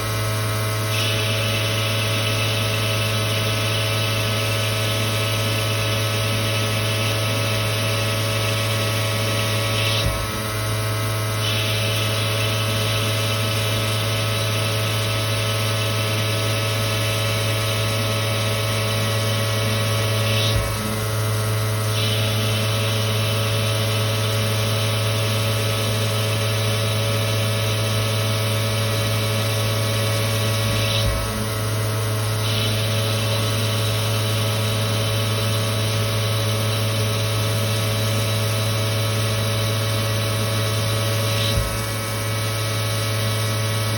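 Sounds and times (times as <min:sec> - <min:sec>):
lathe running: 0:00.0 - 0:43.9.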